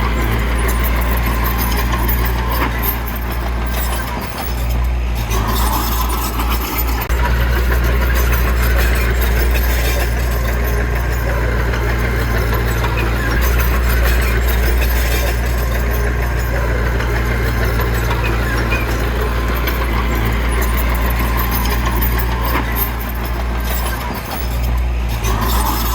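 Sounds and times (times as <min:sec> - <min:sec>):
diesel engine low drone: 0:00.0 - 0:25.9.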